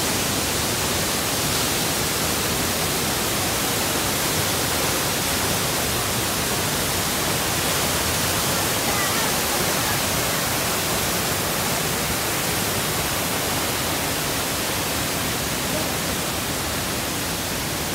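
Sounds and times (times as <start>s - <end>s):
waterfall and stream rushing: 0.0s - 17.9s.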